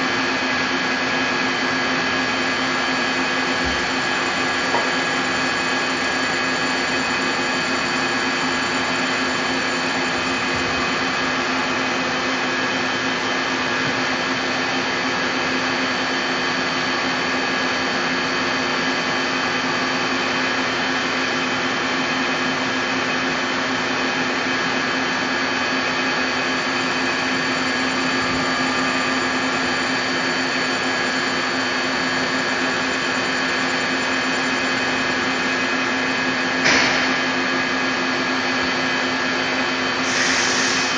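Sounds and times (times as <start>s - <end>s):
lathe machine humming: 0.0s - 40.9s.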